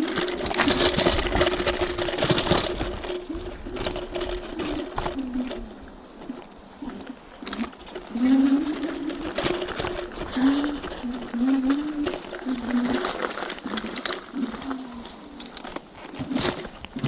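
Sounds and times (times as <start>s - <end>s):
knocks and rattles from bumps: 0.0s - 6.6s, 7.2s - 17.0s
electric scooter motor whining: 0.0s - 17.0s.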